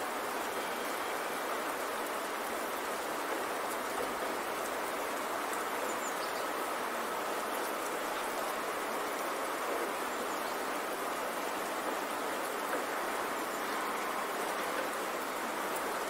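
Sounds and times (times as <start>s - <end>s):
steady rain-like hiss: 0.0s - 16.0s.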